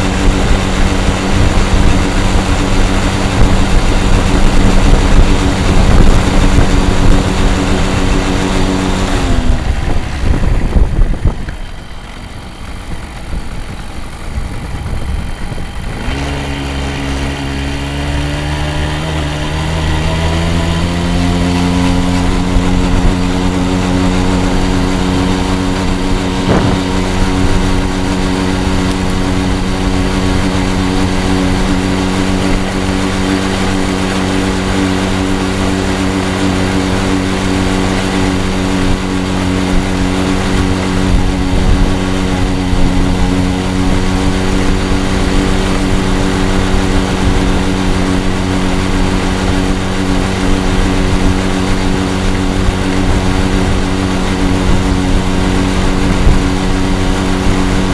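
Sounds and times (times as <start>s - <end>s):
two-stroke engine running: 0.0s - 57.9s.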